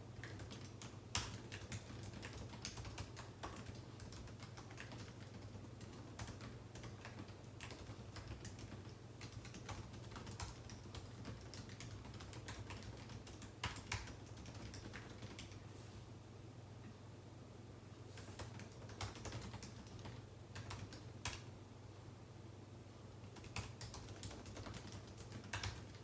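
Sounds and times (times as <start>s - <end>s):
typing on computer keyboard: 0.2s - 15.6s, 18.3s - 21.5s, 23.2s - 26.0s.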